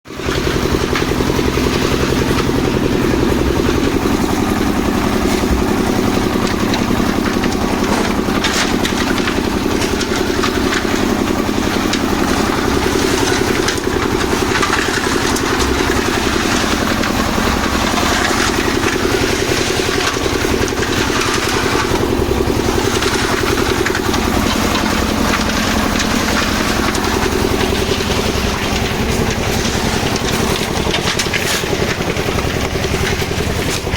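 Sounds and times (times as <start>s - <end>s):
clatter: 0.0s - 33.9s
concrete mixer engine running: 0.0s - 33.9s.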